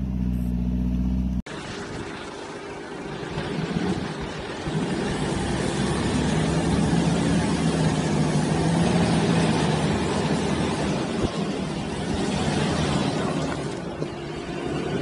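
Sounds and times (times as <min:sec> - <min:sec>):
engine working under load: 0:00.0 - 0:15.0.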